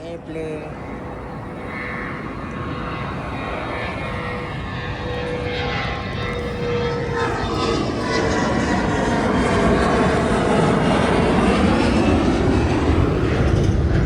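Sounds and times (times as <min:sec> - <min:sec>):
airliner engines passing: 0:00.0 - 0:14.0.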